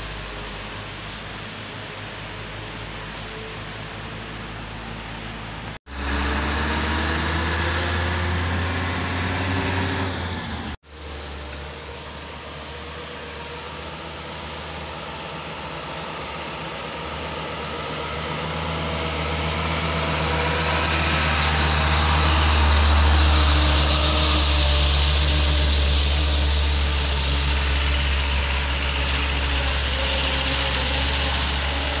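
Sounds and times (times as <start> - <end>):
diesel truck engine droning: 0.0 - 32.0.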